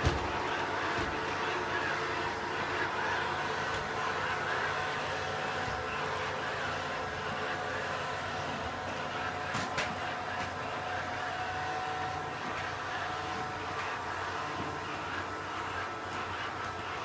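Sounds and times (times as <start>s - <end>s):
robot vacuum cleaner running: 0.0s - 17.0s.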